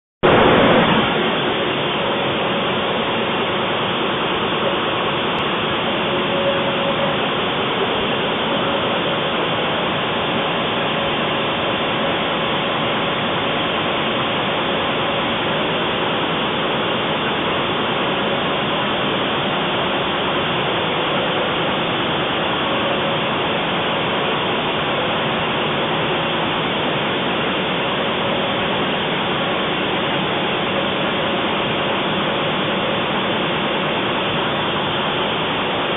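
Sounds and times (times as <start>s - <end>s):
printing press running: 0.2s - 35.9s.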